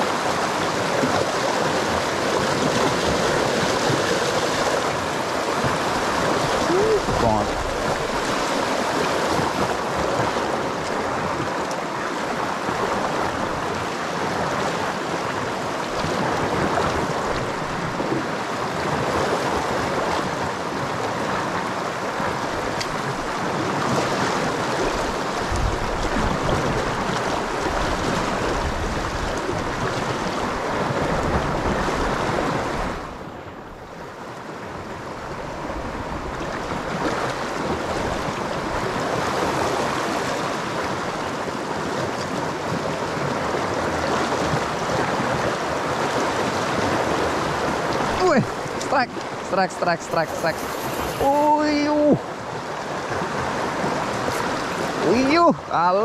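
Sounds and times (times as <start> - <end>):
river rushing through rapids: 0.0 - 56.0.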